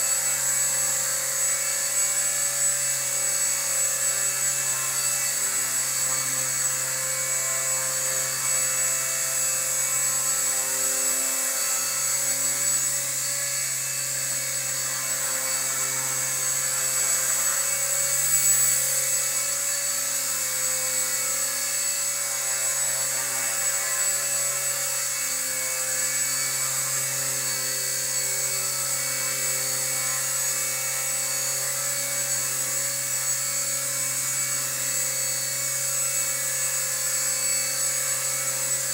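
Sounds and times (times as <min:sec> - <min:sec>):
electric motor high-pitched whine: 0:00.0 - 0:38.9.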